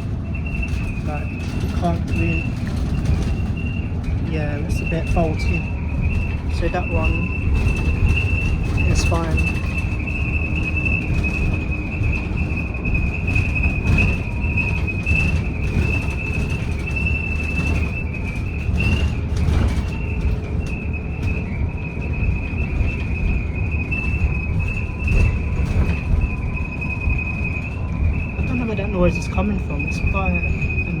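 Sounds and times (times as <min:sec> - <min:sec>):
bodywork rattles and knocks: 0:00.0 - 0:30.9
low road rumble: 0:00.0 - 0:31.0.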